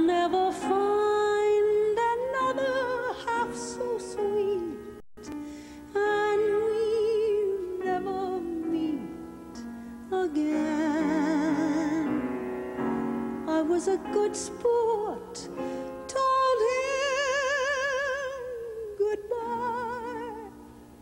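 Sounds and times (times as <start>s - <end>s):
woman singing slow ballad: 0.0s - 12.3s, 13.4s - 20.8s
soft musical accompaniment: 0.0s - 21.0s.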